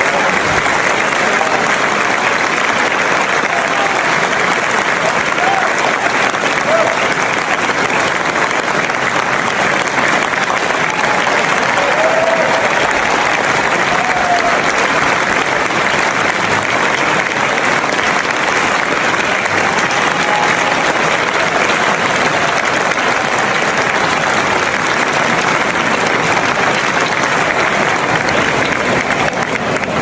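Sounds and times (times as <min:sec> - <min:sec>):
crowd clapping and cheering: 0:00.0 - 0:30.0.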